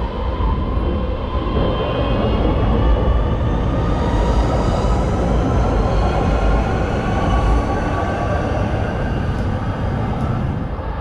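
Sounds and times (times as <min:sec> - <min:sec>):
light-rail train rumbling past: 0:00.0 - 0:11.0.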